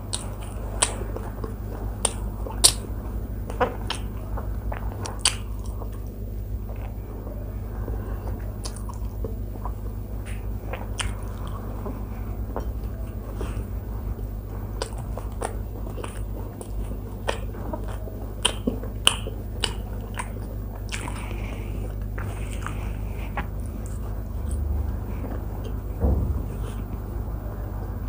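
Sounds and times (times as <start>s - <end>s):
chewing and wet mouth sounds: 0.0s - 28.0s
steady low hum: 0.0s - 28.0s
sharp mouth clicks and smacks: 0.1s - 2.8s, 3.5s - 6.1s, 8.6s - 13.7s, 14.8s - 26.8s.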